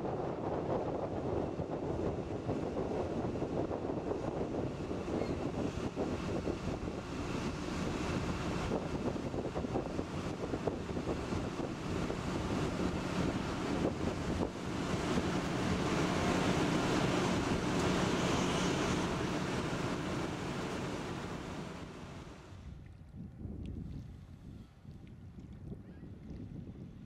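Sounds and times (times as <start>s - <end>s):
wind buffeting microphone: 0.0s - 27.0s
boat diesel engine hum: 0.2s - 22.6s.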